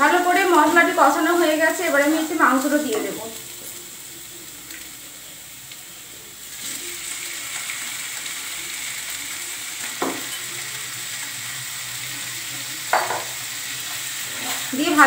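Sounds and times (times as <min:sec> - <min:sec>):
oil sizzling: 0:00.0 - 0:15.0.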